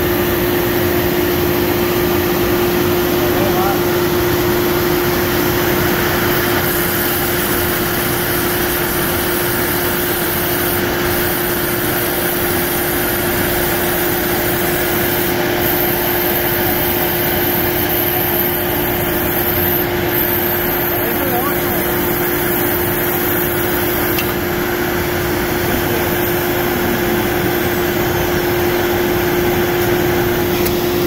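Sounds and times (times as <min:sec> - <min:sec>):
router spindle whine: 0:00.0 - 0:31.0.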